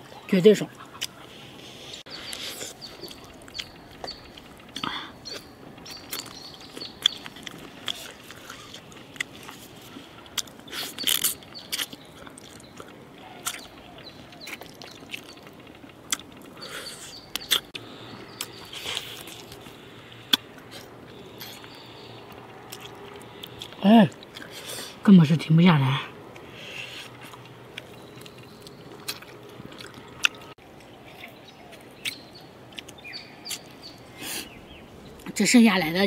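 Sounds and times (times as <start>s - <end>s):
person gnawing and chewing: 0.8s - 1.3s, 2.1s - 24.9s, 26.3s - 35.3s.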